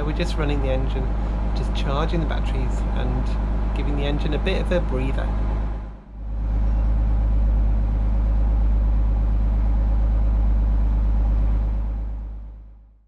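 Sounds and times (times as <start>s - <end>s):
boat engine idling: 0.0s - 12.9s.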